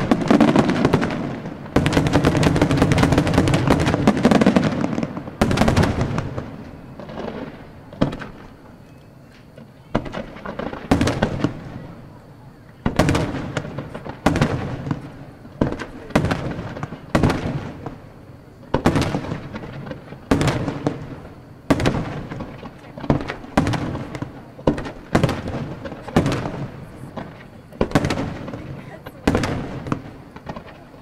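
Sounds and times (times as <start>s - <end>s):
firework shells bursting: 0.0s - 11.8s, 12.8s - 31.0s.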